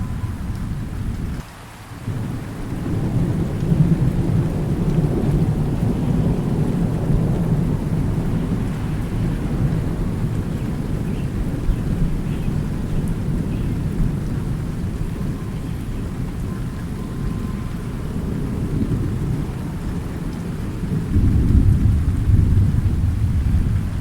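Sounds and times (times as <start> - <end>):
thunder rumbling: 0.0 - 1.4, 2.1 - 24.0
steady rain: 0.0 - 24.0.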